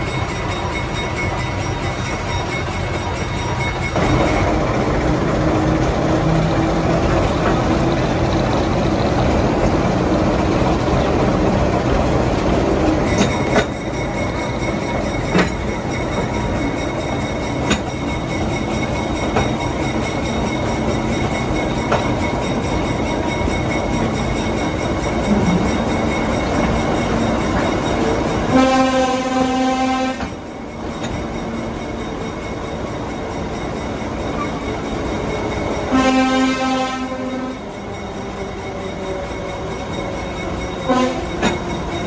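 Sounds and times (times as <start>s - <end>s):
diesel locomotive engine running: 0.0s - 42.0s
train wheel noise: 0.0s - 42.0s.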